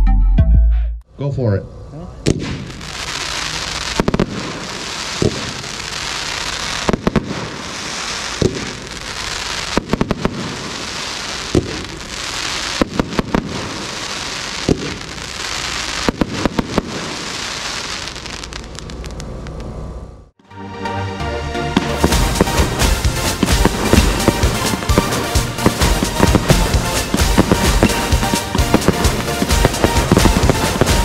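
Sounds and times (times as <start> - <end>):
firework reports: 1.1 - 20.3, 21.8 - 31.0
firework crackling: 2.2 - 20.4, 21.8 - 31.0.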